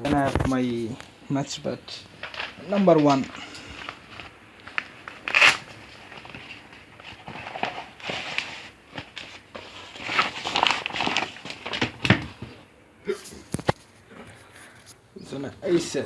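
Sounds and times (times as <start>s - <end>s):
cricket gear rustling: 0.0s - 16.0s.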